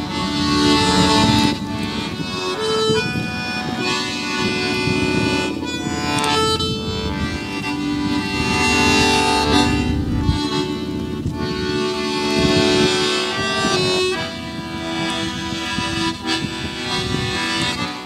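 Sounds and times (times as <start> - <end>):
accordion playing a tune: 0.0 - 18.0.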